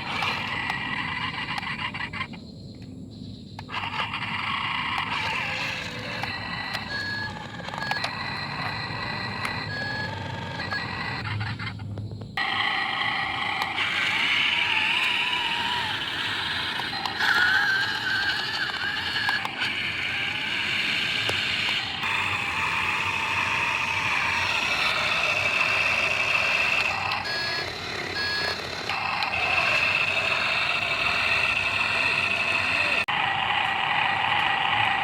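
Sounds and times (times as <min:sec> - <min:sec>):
hydraulic pump whining: 0:00.0 - 0:02.1, 0:03.6 - 0:35.0.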